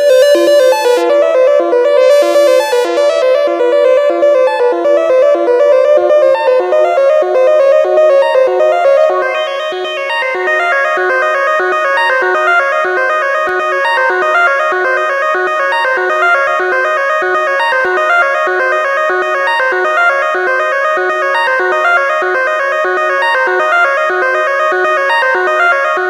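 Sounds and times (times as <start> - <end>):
held synth tones: 0.0 - 22.4
rapid synth note sequence: 0.0 - 26.0.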